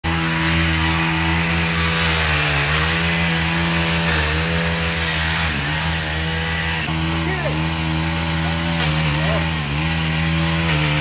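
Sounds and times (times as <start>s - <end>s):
engine running at high speed: 0.0s - 11.0s.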